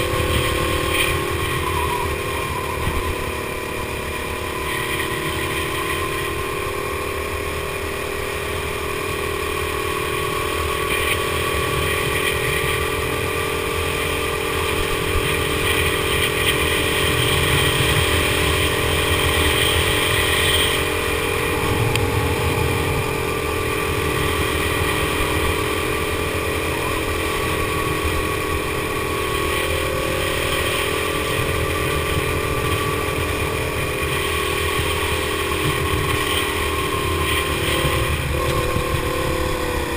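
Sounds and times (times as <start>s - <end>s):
go-kart engine running: 0.0s - 39.9s
wind rumble on microphone: 0.0s - 39.9s.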